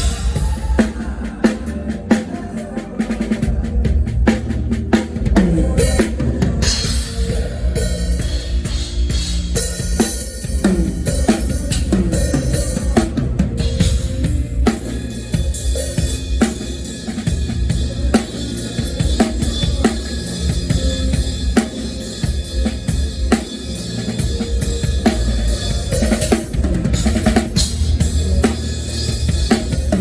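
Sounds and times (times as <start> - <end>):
drum kit groove: 0.0 - 30.0.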